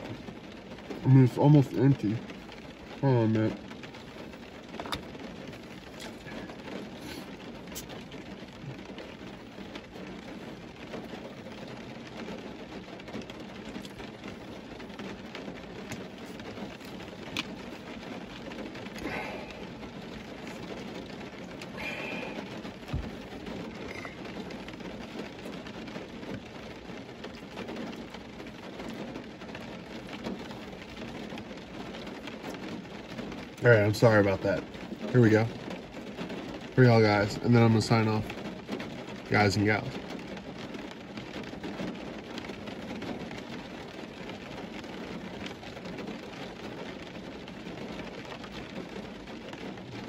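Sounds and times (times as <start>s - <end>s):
faint clicks and rustles: 0.0s - 50.0s
steady hiss in car cabin: 0.0s - 50.0s.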